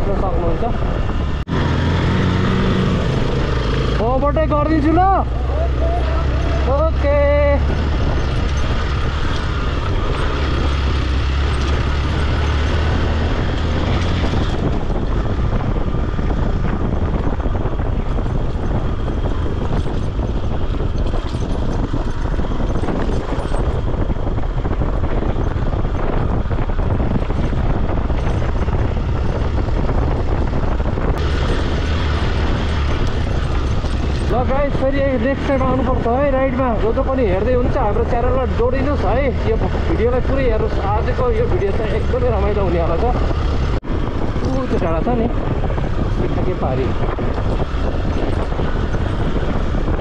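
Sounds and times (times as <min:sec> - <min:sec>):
motorcycle engine running: 0:00.0 - 0:50.0
wind noise: 0:00.0 - 0:50.0.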